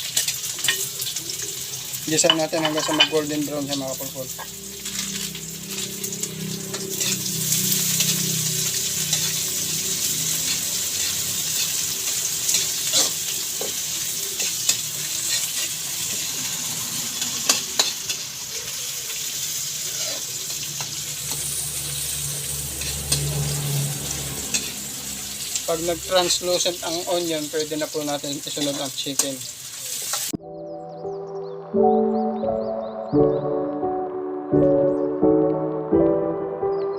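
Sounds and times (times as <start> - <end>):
garlic and onion sizzling in oil: 0.0 - 30.4.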